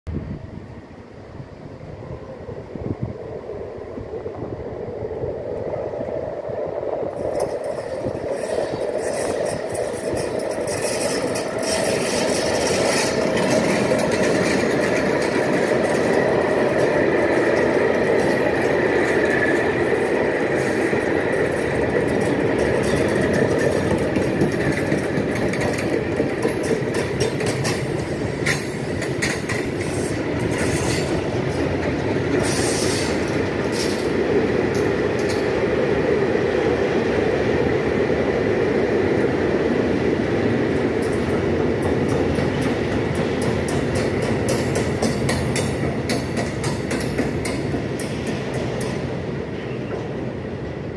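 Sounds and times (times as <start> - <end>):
train wheels clattering over rails: 7.0 - 37.7, 40.0 - 50.9.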